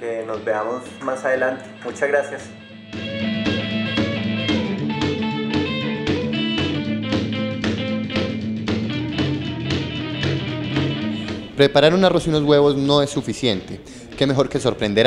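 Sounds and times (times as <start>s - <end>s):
guitar over a steady beat: 0.0s - 15.0s.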